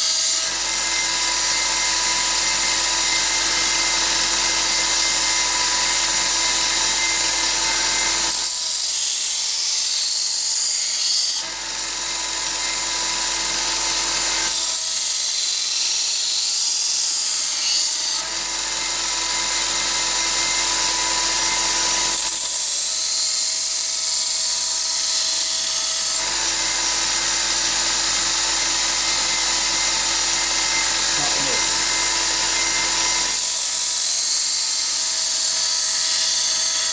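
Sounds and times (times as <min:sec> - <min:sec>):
electric knife sharpener grinding: 0:00.0 - 0:36.9.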